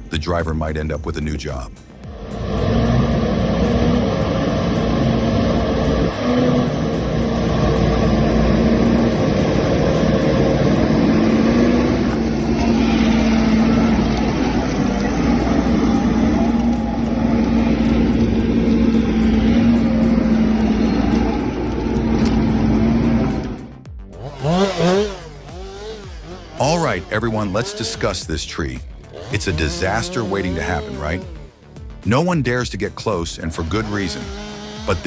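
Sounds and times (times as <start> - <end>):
skidder engine running: 1.8 - 35.0.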